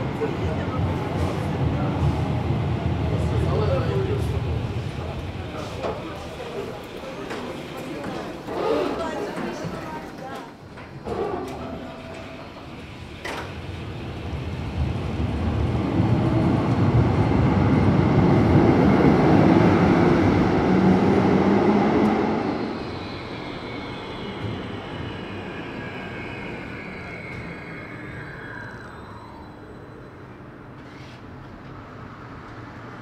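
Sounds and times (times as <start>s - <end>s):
tram rumbling on rails: 0.0s - 9.9s, 10.5s - 33.0s.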